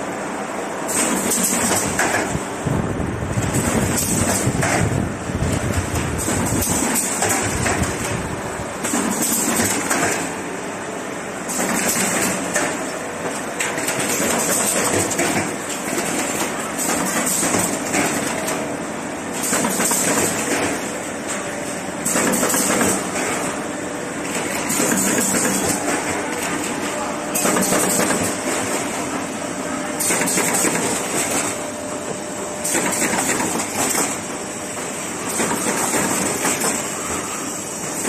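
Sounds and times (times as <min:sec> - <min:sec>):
machine running: 0:00.0 - 0:38.0.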